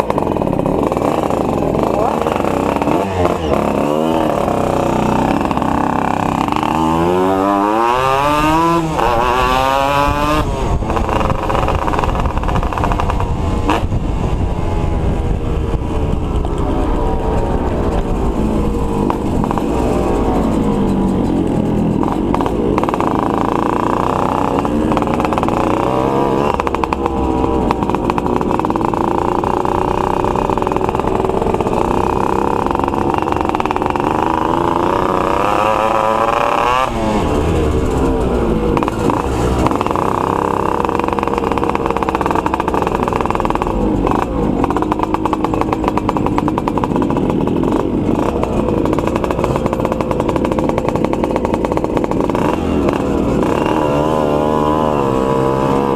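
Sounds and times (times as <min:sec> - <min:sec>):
two-stroke motorcycle engines revving: 0:00.0 - 0:55.9.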